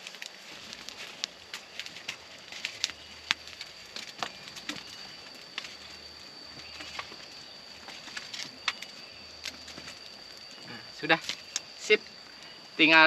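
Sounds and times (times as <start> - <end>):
steady high whine: 0.0 - 13.0
sticks raking embers: 0.0 - 13.0
wood fire crackling: 0.0 - 13.0.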